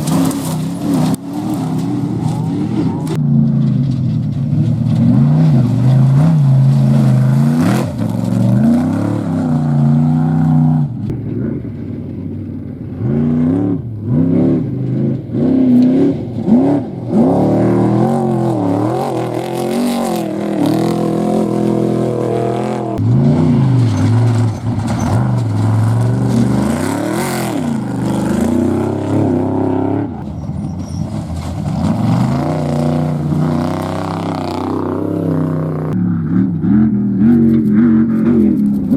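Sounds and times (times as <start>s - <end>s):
race vehicle engines revving: 0.0s - 38.9s.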